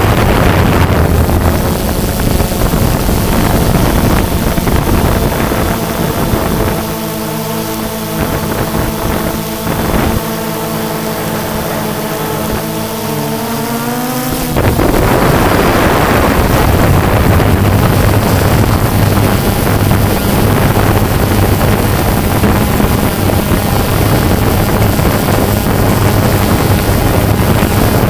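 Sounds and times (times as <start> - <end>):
drone motors buzzing whine: 0.0 - 28.0
rough rushing noise: 0.0 - 28.0
steady low hum: 0.0 - 28.0.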